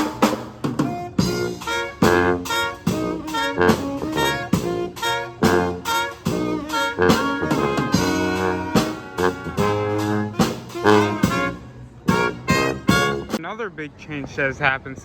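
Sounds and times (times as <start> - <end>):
jazzy music with horns: 0.0 - 13.4.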